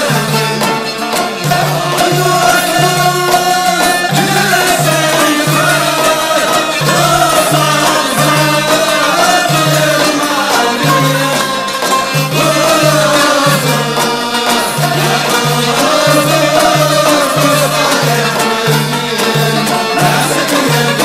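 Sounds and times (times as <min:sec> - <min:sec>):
person singing folk melody: 0:00.0 - 0:21.0.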